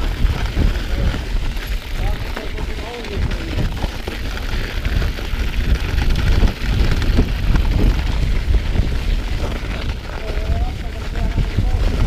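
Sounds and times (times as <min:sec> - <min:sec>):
bike knocks and rattles: 0:00.0 - 0:12.0
bike tyres rumbling on snow: 0:00.0 - 0:12.0
wind buffeting microphone: 0:00.0 - 0:12.0.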